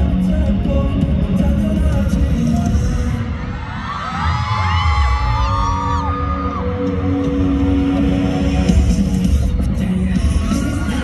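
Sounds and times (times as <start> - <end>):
bass-heavy pop music: 0.0 - 11.0
faint crowd: 0.0 - 11.0.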